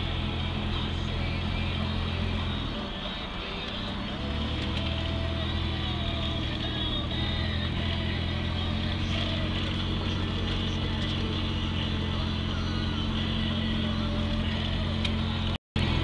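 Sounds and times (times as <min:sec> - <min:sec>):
car engine and tyre drone: 0:00.0 - 0:16.0.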